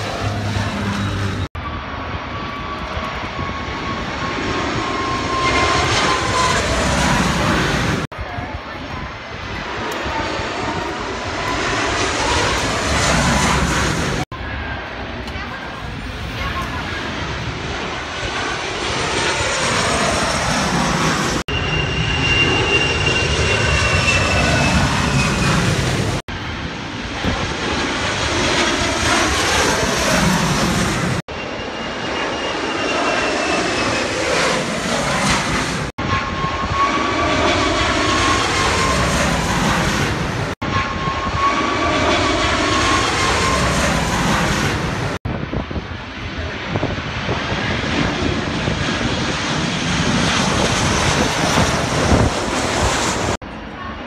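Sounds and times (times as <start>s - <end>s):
jet engine noise with whine: 0.0s - 54.0s.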